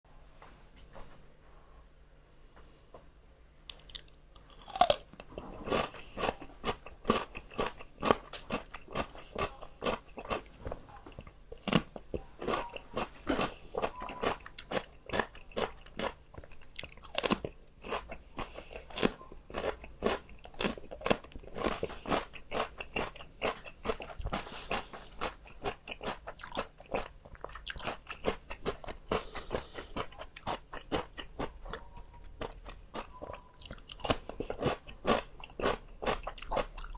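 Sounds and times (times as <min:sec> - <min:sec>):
crunching raw vegetables: 0:03.7 - 0:36.9.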